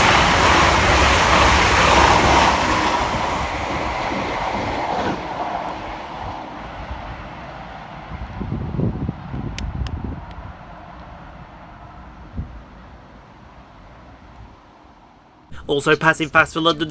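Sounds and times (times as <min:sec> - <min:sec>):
train passing fast: 0:00.0 - 0:16.9.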